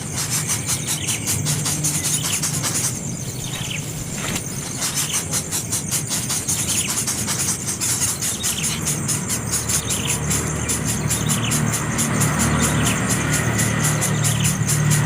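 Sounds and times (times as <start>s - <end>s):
baby bird chirping: 0.0s - 15.0s.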